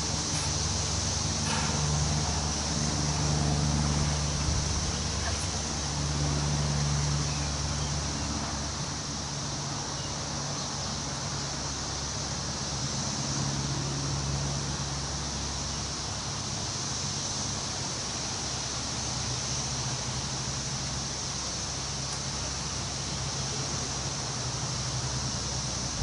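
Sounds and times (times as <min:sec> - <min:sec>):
wind rustling leaves: 0:00.0 - 0:26.0.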